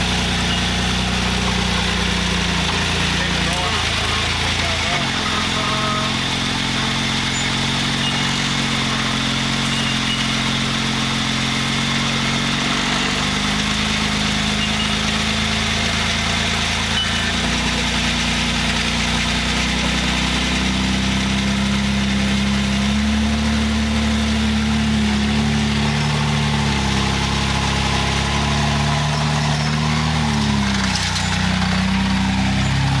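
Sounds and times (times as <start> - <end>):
vehicle engine running at low revs: 0.0 - 33.0.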